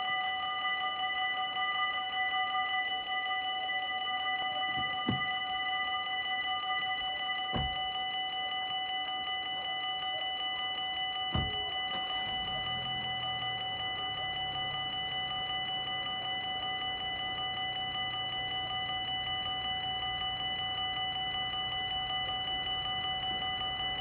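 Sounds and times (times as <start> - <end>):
electronic level crossing bell ringing: 4.3 - 24.0.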